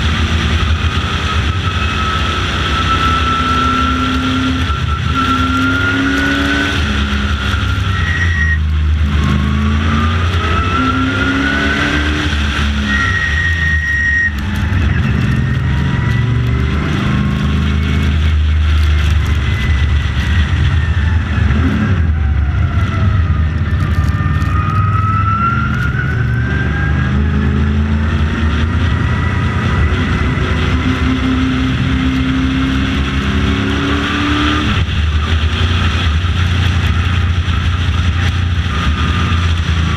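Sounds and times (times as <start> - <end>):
high engine whine: 0.0 - 39.9
race car engine revving: 0.0 - 39.9.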